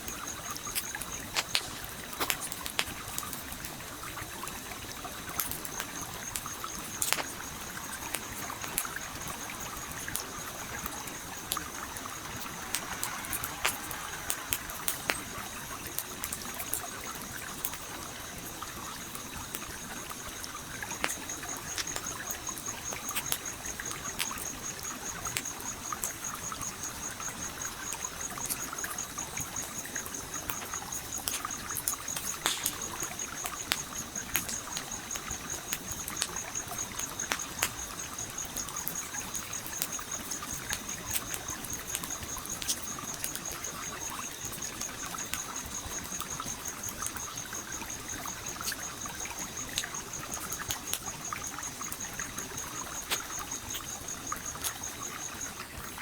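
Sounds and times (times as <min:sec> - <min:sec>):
campfire crackling and popping: 0:00.0 - 0:56.0
flowing stream: 0:00.0 - 0:56.0.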